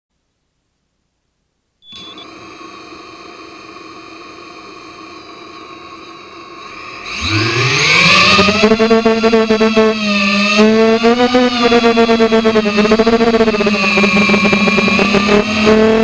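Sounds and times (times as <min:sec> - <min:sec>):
drone motors whining: 0:01.9 - 0:16.0.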